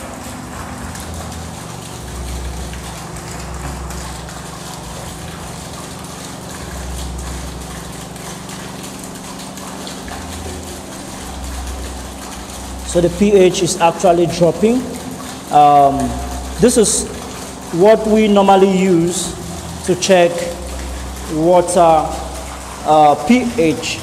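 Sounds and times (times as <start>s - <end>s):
pump hum: 0.0s - 24.0s
running water in fish tank: 0.0s - 24.0s.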